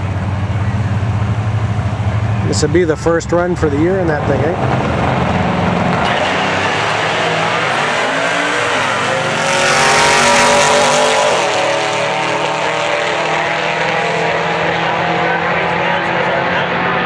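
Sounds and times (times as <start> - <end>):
drag racing cars accelerating: 0.0 - 17.0.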